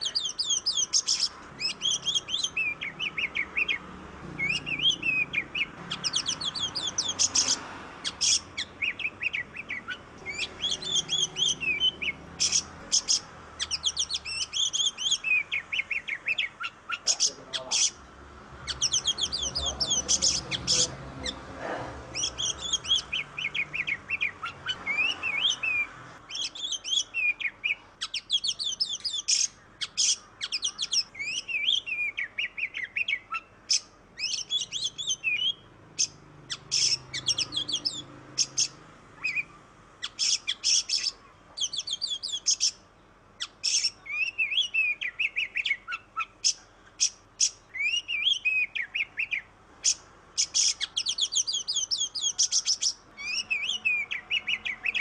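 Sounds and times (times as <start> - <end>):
songbird warbling whistles: 0.0 - 3.8, 4.4 - 17.9, 22.1 - 42.8, 43.4 - 55.0.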